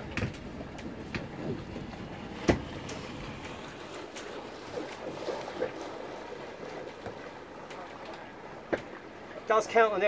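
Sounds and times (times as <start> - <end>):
water rushing past yacht: 0.0 - 10.0
wind: 0.0 - 10.0.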